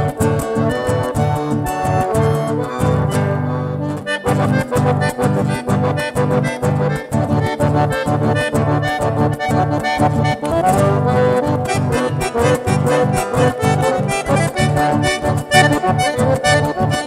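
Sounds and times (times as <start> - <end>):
acoustic guitar: 0.0 - 17.0
button accordion melody: 0.0 - 17.0.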